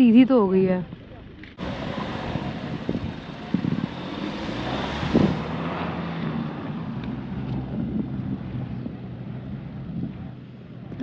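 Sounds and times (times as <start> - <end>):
car engine under load: 0.8 - 11.0
tyres pushing through snow: 1.6 - 11.0.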